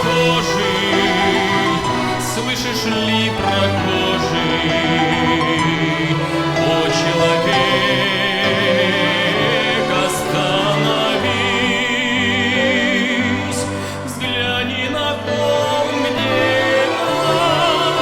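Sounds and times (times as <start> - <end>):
choir singing with vibrato: 0.0 - 18.0
string orchestra playing a hymn: 0.0 - 18.0.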